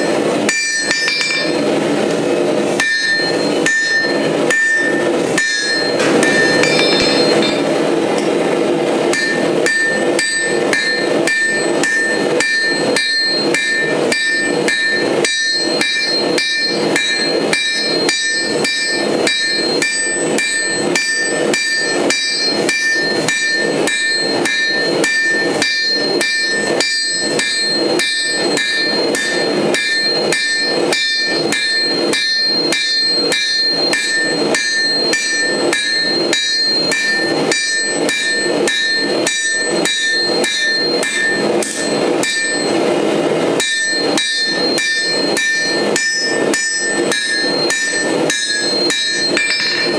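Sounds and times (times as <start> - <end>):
hammer striking steel on anvil: 0.0 - 49.9.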